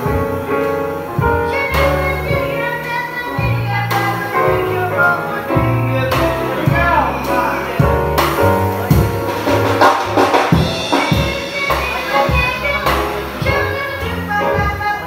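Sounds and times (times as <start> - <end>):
drum kit swing beat: 0.0 - 15.0
grand piano: 0.0 - 15.0
upright double bass: 0.0 - 15.0.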